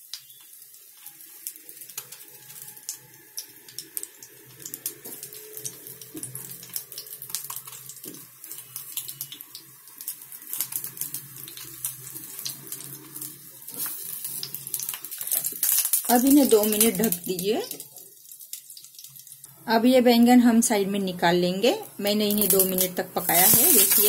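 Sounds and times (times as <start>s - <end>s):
vegetables frying in hot oil: 0.0s - 24.0s.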